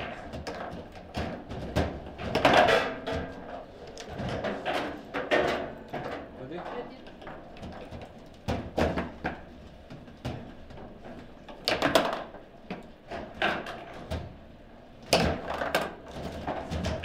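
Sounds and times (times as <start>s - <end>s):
table football clacks and knocks: 0.0s - 6.4s, 7.0s - 17.0s.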